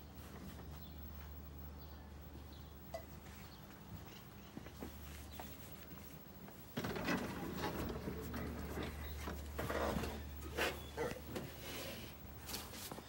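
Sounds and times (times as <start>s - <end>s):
rustling and shuffling: 0.0s - 13.0s.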